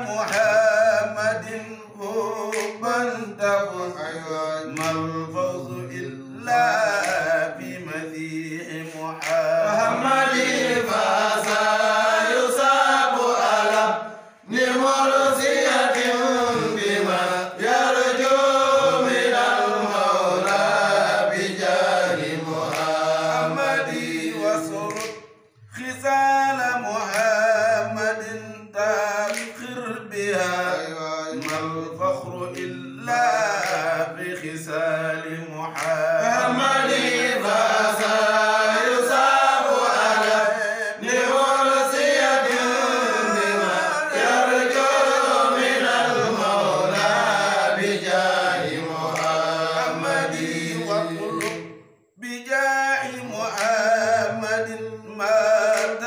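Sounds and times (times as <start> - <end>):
men chanting a religious song: 0.0 - 56.0.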